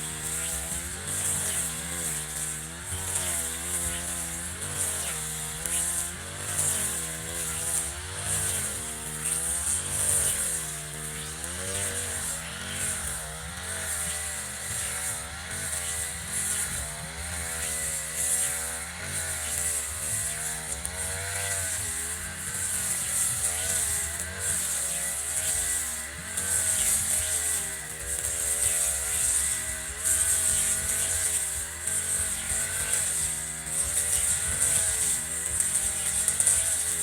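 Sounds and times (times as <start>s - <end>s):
brush cutter engine running: 0.0s - 37.0s.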